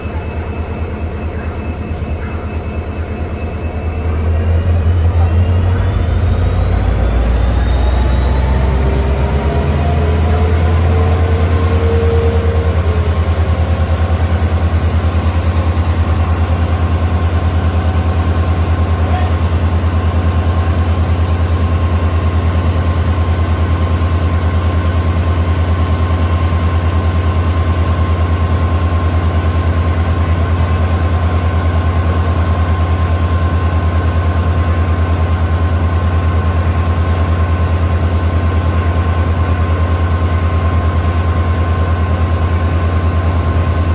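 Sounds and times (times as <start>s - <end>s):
locomotive diesel engine running: 0.0s - 43.9s.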